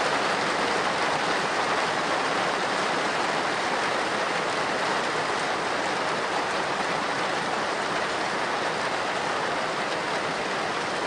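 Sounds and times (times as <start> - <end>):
heavy rain on a slate roof: 0.0 - 11.0.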